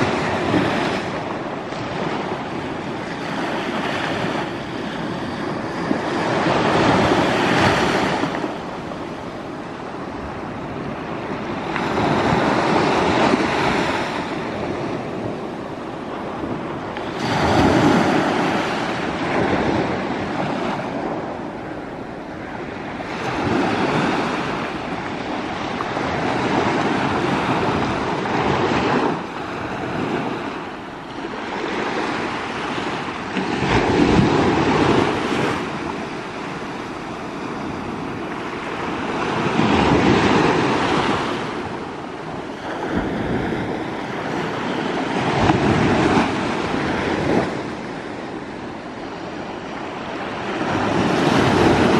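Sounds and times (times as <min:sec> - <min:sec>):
small waves washing up a shore: 0:00.0 - 0:51.9.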